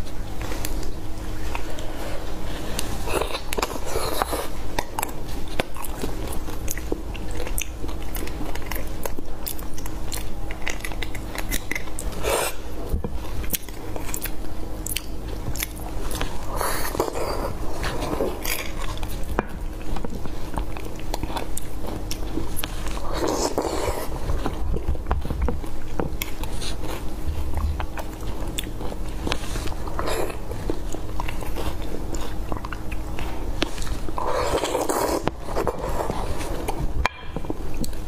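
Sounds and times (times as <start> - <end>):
person chewing: 0.0 - 38.0.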